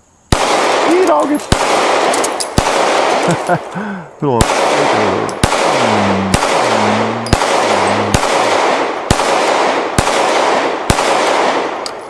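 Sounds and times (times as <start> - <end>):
pistol shots echoing: 0.3 - 3.7, 4.3 - 12.0.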